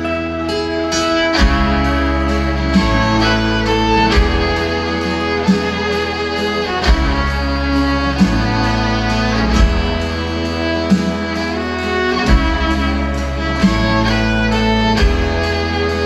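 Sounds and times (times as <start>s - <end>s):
country-rock band playing: 0.0s - 16.0s
fiddle melody: 0.0s - 16.0s
low thumps: 1.0s - 16.0s.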